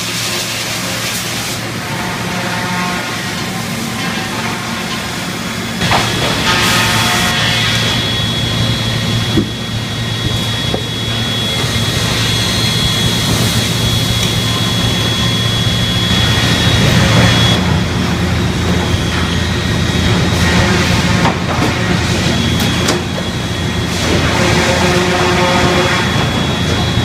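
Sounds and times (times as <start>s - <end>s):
high steady machine whine: 0.0s - 27.0s
industrial machinery din: 0.0s - 27.0s.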